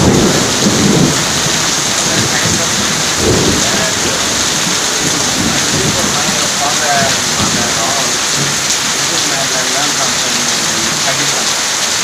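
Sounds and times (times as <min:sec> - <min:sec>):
heavy rain falling: 0:00.0 - 0:12.0
low rumbles: 0:00.0 - 0:12.0
water running off roof: 0:00.0 - 0:12.0.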